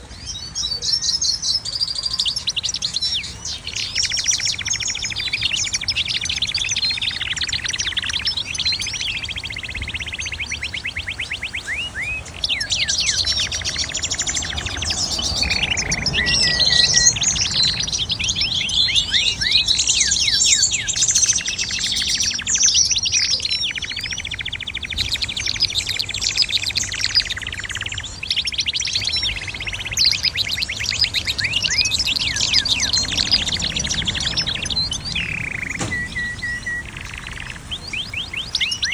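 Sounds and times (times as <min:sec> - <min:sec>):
finches and canaries chirping: 0:00.0 - 0:38.9.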